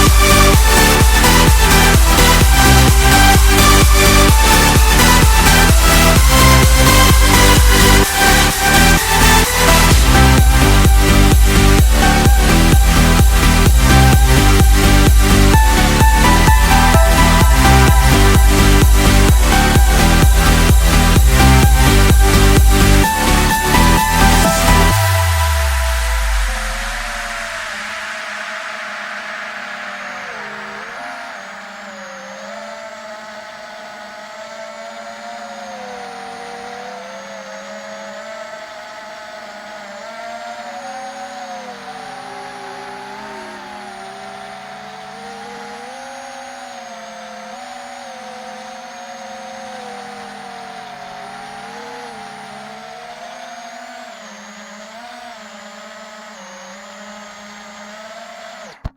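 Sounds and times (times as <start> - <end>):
drone propellers whining: 0.0 - 58.9.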